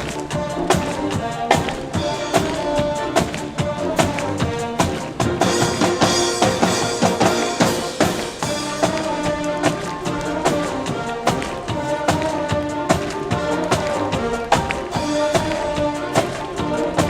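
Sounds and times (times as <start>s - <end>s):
brass chords: 0.0s - 17.0s
snare and bass drums: 0.0s - 17.0s.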